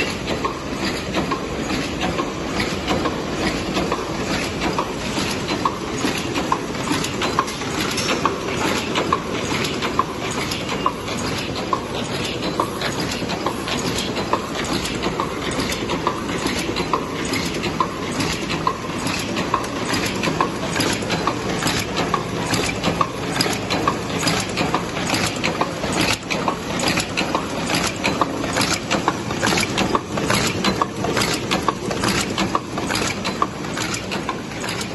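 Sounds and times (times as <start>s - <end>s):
paper cup machine clattering: 0.0s - 34.9s.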